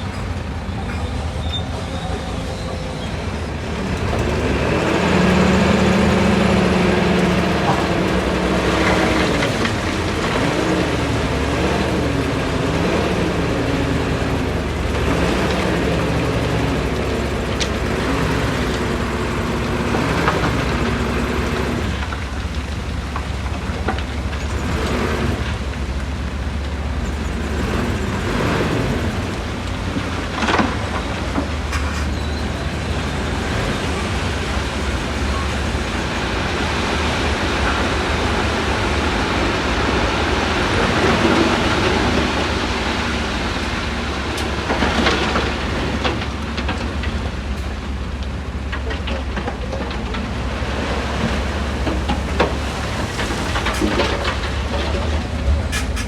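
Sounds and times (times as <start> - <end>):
heavy diesel machinery under load: 0.0 - 56.0.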